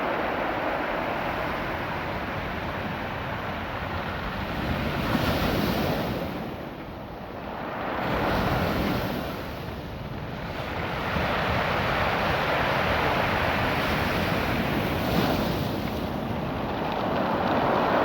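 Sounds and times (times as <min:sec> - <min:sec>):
surf washing over rocks: 0:00.0 - 0:18.0
wind buffeting microphone: 0:00.0 - 0:18.0.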